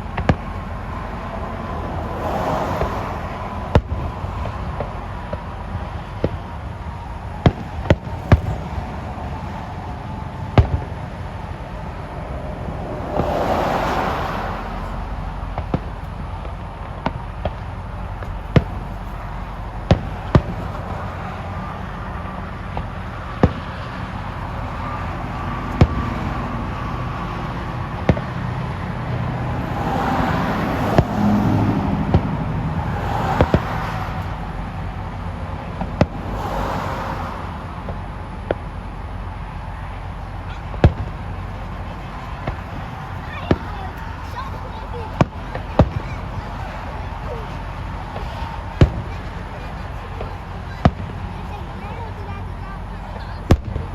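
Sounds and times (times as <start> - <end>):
fireworks bangs: 2.1 - 53.9.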